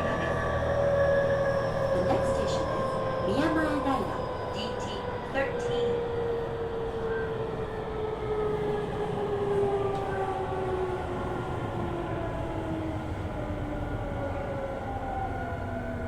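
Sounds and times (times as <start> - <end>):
train inverter and motors whining: 0.0 - 16.0.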